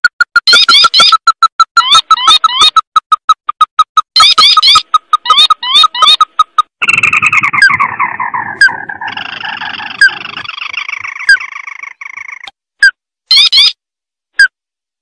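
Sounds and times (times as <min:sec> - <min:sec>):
chattering bird trill: 0:00.3 - 0:12.5, 0:13.3 - 0:13.8
crake calls: 0:00.3 - 0:12.5.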